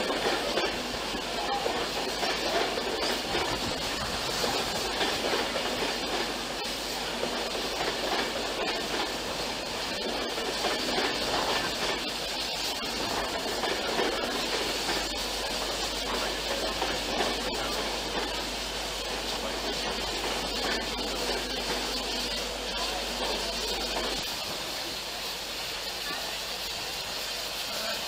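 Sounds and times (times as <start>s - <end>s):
wheels clicking over rail joints: 0.0s - 24.4s
electric train rumbling past: 0.0s - 28.0s.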